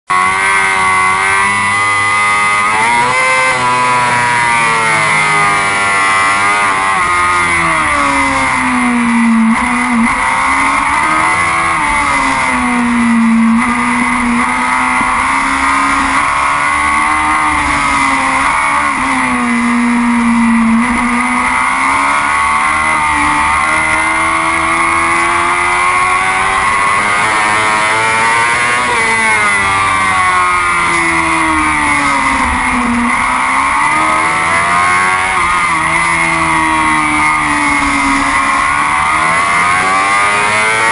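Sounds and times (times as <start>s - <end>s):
motorcycle engine running hard: 0.1s - 40.9s.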